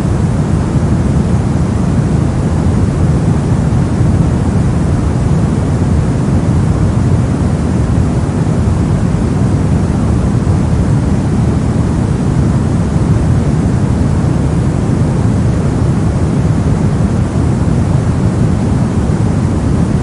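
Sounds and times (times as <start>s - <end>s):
soft deep noise track: 0.0s - 20.0s.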